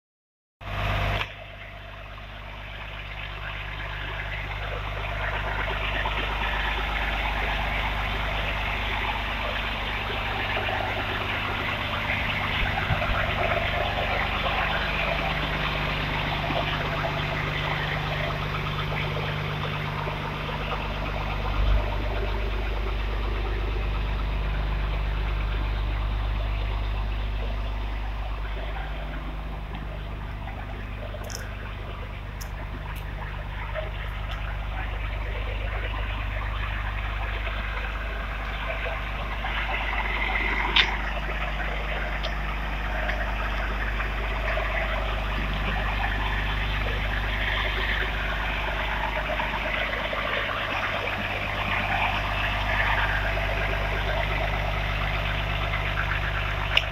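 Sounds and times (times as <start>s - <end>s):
diesel truck engine idling: 0.7s - 56.9s.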